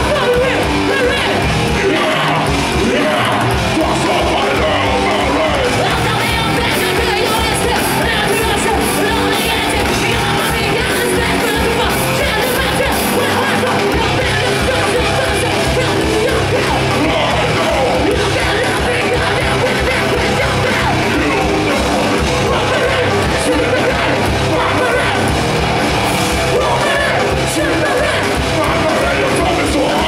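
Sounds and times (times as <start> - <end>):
bass guitar: 0.0 - 30.0
distorted electric guitars: 0.0 - 30.0
drums with rapid kick drum: 0.0 - 30.0
singer yelling vocals: 0.0 - 30.0.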